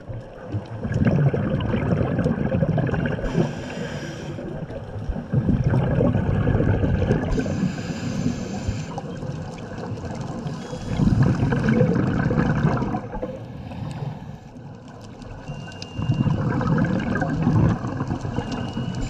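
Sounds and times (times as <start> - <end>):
underwater exhaust bubbles gurgling: 0.0 - 19.0.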